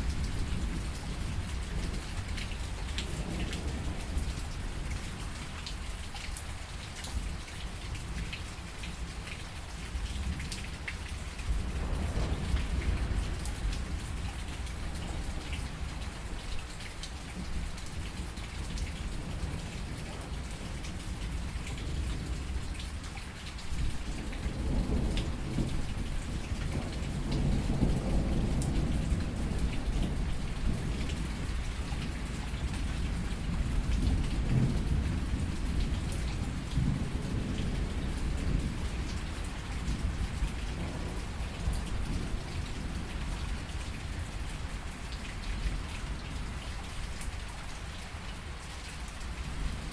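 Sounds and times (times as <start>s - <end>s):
low rumble of thunder: 0.0s - 8.7s, 9.8s - 49.9s
steady rain falling: 0.0s - 49.9s.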